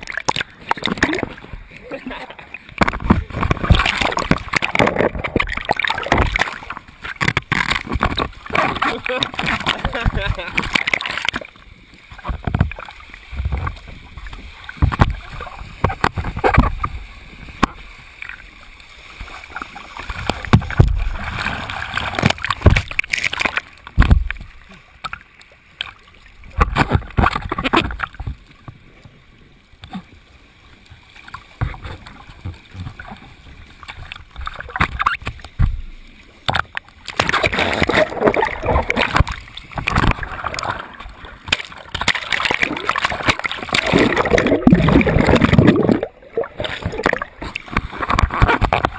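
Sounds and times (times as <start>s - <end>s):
water splashing and sloshing: 0.0s - 48.9s.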